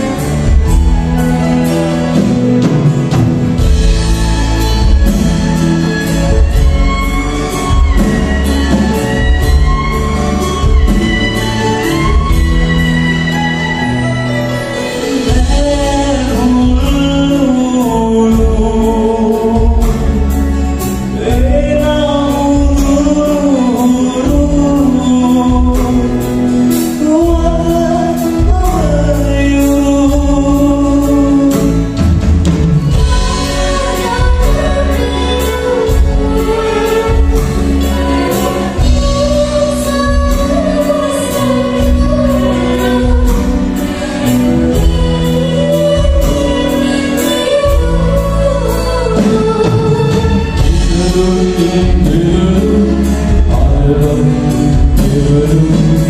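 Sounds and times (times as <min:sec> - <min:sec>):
orchestra playing a song: 0:00.0 - 0:56.0
person singing on a microphone: 0:00.0 - 0:56.0.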